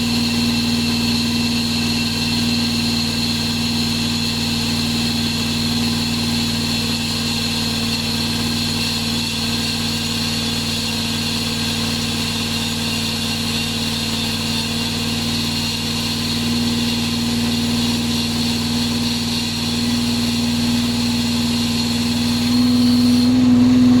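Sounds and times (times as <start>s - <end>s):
chain saw running: 0.0s - 24.0s.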